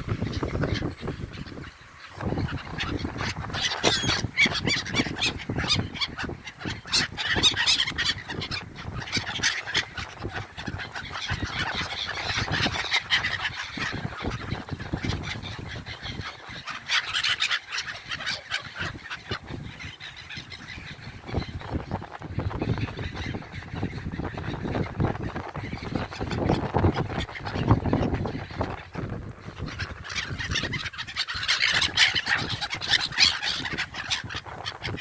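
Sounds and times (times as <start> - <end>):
gulls squawking: 0.0 - 35.0.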